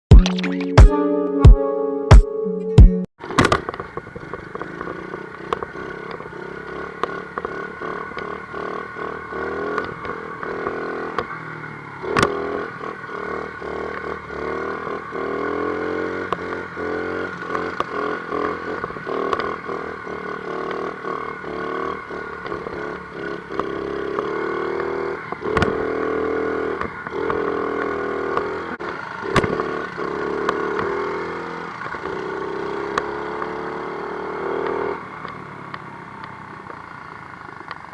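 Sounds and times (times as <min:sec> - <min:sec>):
dirt bike engine revving: 0:03.2 - 0:37.9
knocks and rattles of bike: 0:03.2 - 0:37.9.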